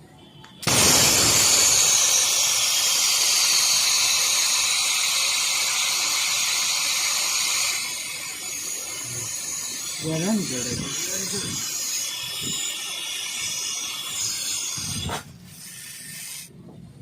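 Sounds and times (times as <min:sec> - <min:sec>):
gas hissing from pipe: 0:00.6 - 0:16.5.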